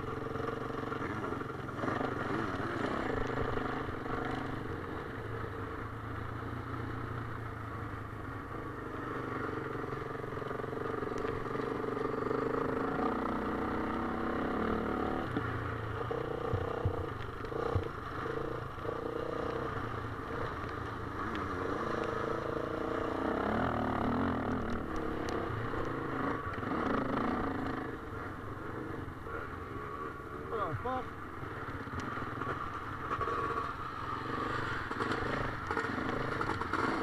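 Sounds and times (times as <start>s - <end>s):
dirt bike engine racing: 0.0s - 37.0s.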